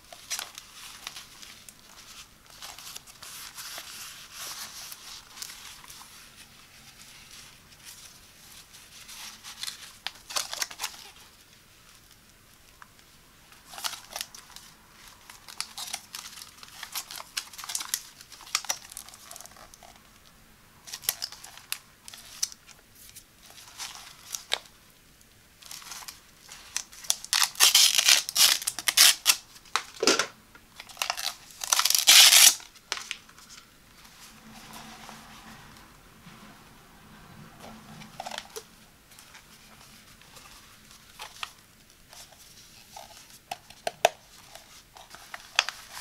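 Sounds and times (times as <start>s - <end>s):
plastic film crinkling and tearing: 0.0s - 12.2s, 13.5s - 20.0s, 20.8s - 24.8s, 25.6s - 30.2s, 30.8s - 33.7s, 38.1s - 46.0s.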